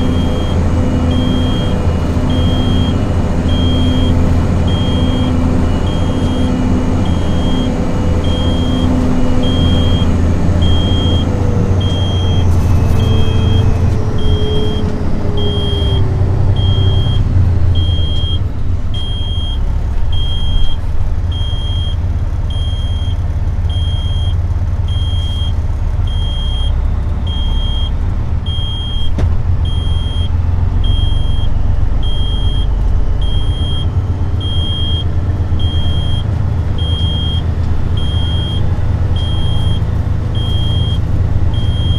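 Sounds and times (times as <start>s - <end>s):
high electronic beeps: 0.0s - 17.2s, 17.8s - 18.4s, 19.0s - 35.0s, 38.0s - 39.8s, 40.4s - 41.0s, 41.6s - 41.9s
truck diesel engine rumbling: 0.0s - 41.9s.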